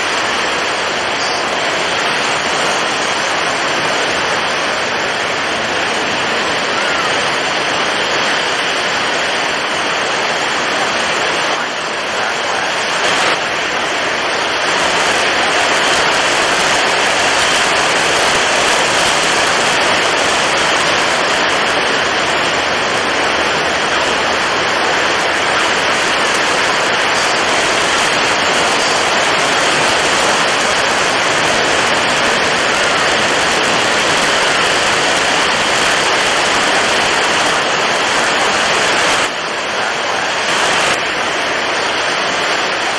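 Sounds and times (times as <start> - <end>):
heavy waves: 0.0 - 42.9
strong wind: 0.0 - 42.9.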